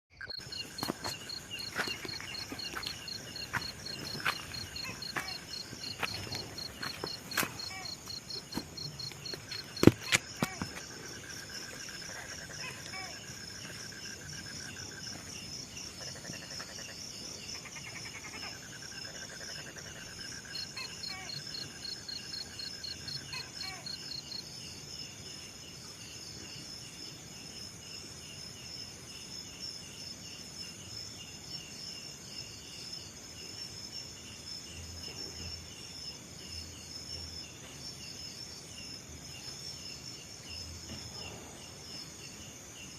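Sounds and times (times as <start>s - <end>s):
crickets trilling: 0.1s - 42.9s.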